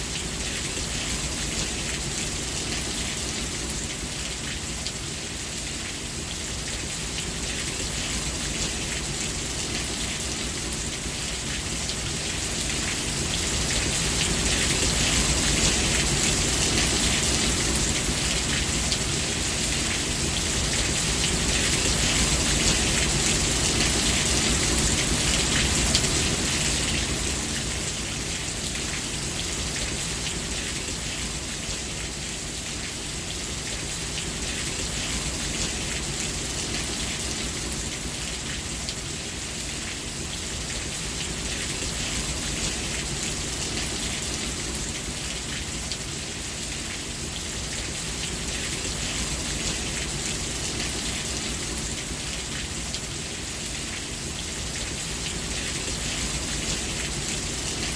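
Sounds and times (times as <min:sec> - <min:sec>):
raindrops pattering on surface: 0:00.0 - 0:57.9
steady rain: 0:00.0 - 0:57.9.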